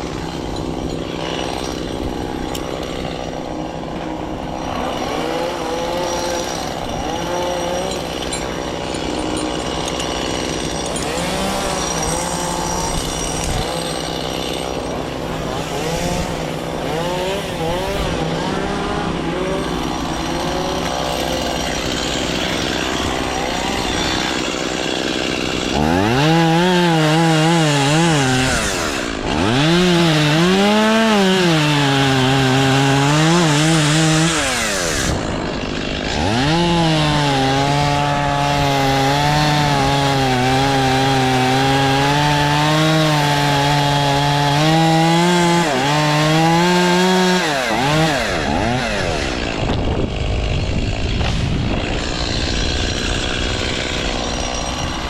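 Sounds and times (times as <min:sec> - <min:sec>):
small engine running under load: 0:00.0 - 0:55.0.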